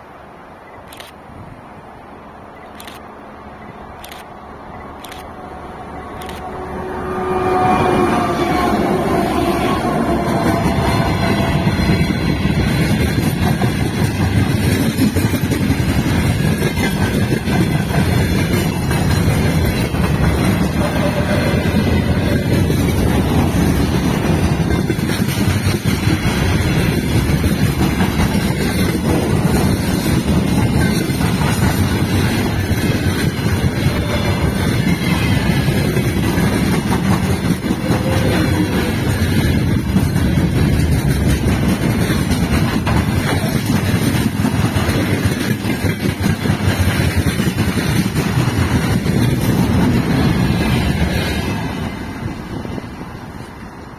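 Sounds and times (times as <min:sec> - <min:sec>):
freight train wheels on rails: 0:00.0 - 0:53.9.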